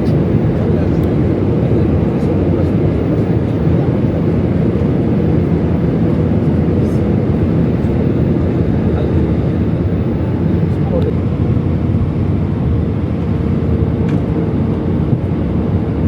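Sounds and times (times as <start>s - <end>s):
jet airliner cabin rumble: 0.0s - 16.0s.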